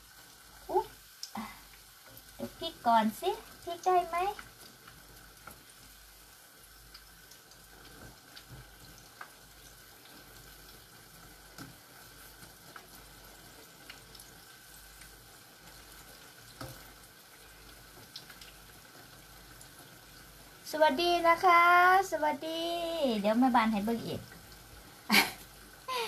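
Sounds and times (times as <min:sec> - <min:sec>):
fritters sizzling in hot oil: 0:00.0 - 0:26.0.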